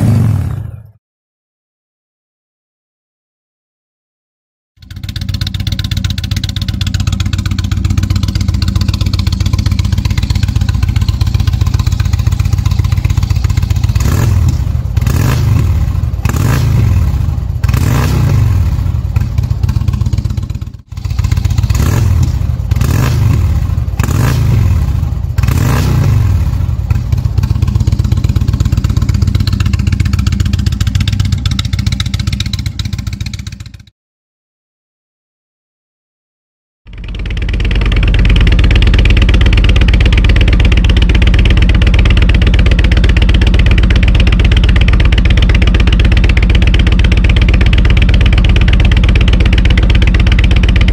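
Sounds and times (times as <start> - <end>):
motorcycle engine idling and revving: 0.0 - 1.0, 4.8 - 33.9, 36.9 - 50.9.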